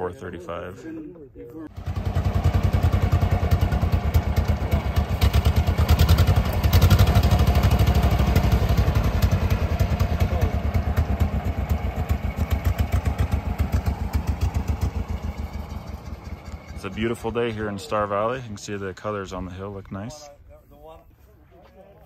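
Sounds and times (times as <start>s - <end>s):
tractor engine running: 1.7s - 19.4s.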